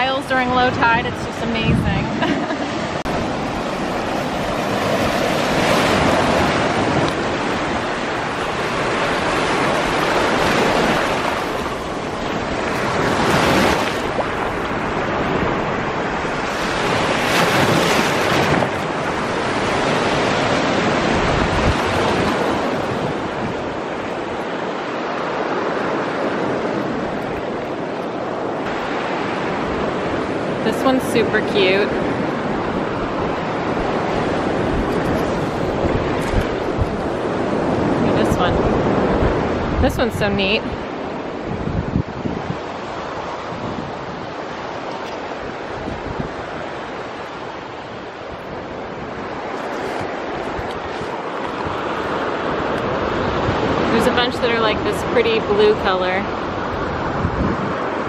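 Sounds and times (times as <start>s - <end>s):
small surf washing on shore: 0.0s - 58.0s.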